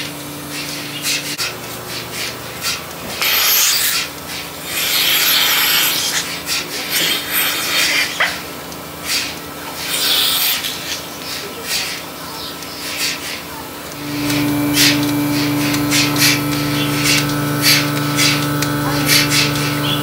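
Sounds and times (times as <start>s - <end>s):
low vacuum hum: 0.0s - 20.0s
milking machine hissing: 0.0s - 20.0s.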